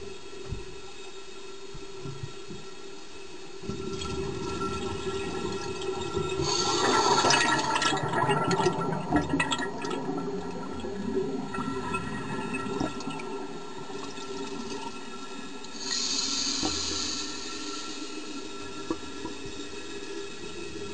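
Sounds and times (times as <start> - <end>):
underwater air bubbles gurgling: 3.6 - 20.9.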